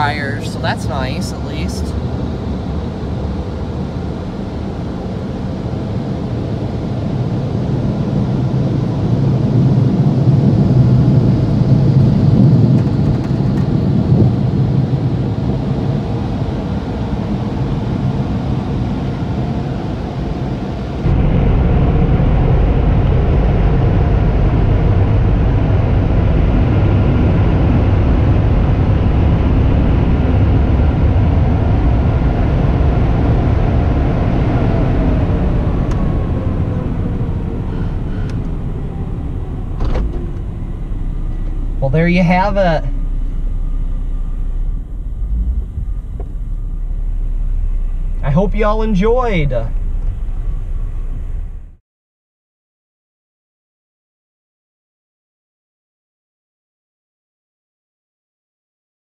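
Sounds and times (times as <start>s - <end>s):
car wash machinery rumble: 0.0s - 51.8s.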